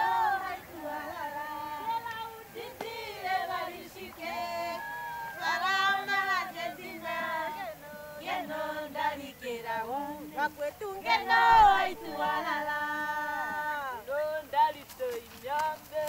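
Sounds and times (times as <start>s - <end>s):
high voices singing unaccompanied: 0.0s - 16.0s.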